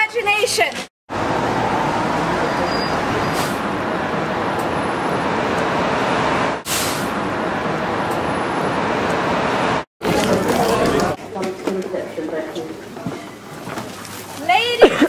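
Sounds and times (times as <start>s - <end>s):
busy road traffic: 1.1s - 15.0s.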